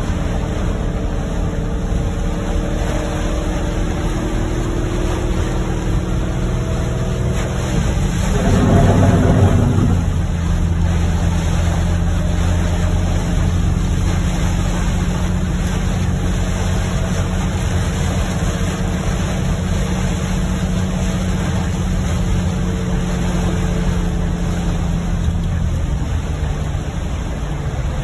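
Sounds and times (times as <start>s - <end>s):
low engine and road hum: 0.0s - 28.0s
rain on car: 0.0s - 28.0s
tyres on wet road: 0.0s - 28.0s.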